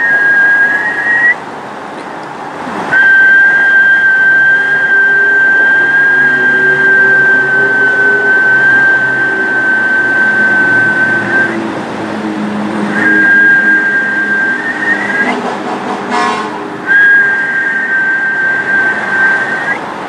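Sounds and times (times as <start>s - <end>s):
high whistle-like tone: 0.0s - 1.4s, 2.9s - 11.6s, 12.9s - 15.5s, 16.1s - 19.9s
low hum: 3.0s - 19.8s.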